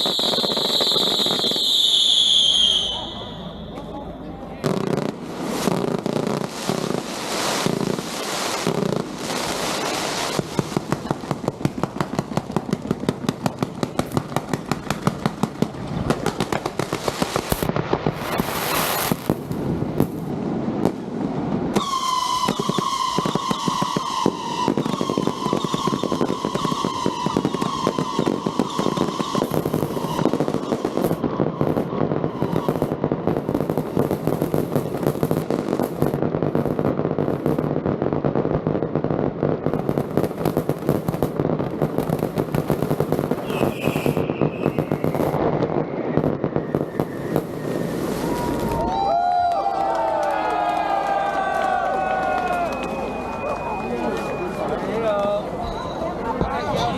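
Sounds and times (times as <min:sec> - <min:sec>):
whistling firework: 0:00.0 - 0:04.0, 0:04.6 - 0:56.1
firecrackers crackling and banging: 0:00.0 - 0:56.9.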